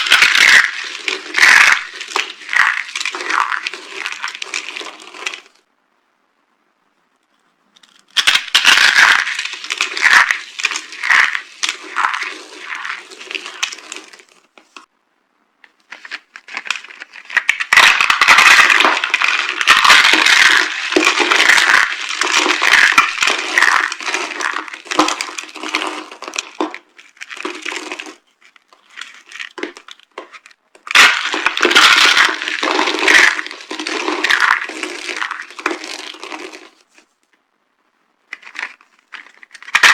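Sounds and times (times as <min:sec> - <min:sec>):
dry soap crackling and crunching: 0:00.0 - 0:05.7, 0:07.8 - 0:14.9, 0:15.6 - 0:37.2, 0:38.3 - 0:39.9.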